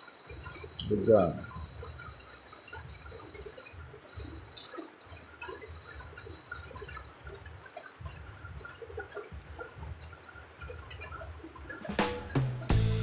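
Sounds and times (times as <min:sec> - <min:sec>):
water drips and splashes: 0:00.0 - 0:12.0
steady rain: 0:00.0 - 0:13.0.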